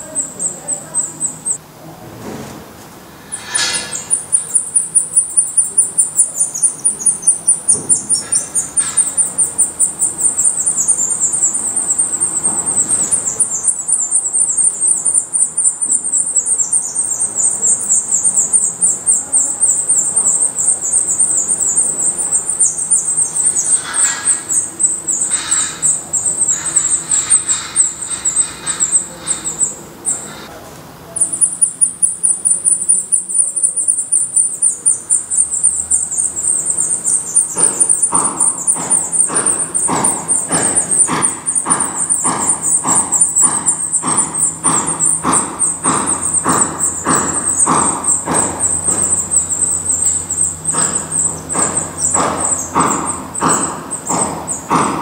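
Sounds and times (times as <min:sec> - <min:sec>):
nestlings begging calls: 0:00.0 - 0:01.7, 0:03.2 - 0:55.0.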